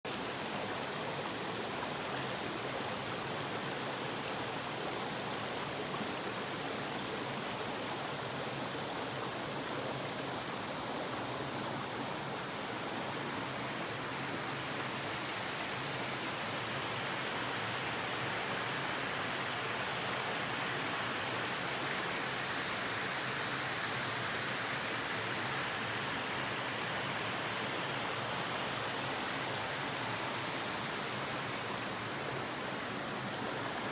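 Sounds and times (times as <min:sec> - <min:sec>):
high-pitched hiss: 0:00.1 - 0:33.9
stream rushing: 0:00.1 - 0:33.9.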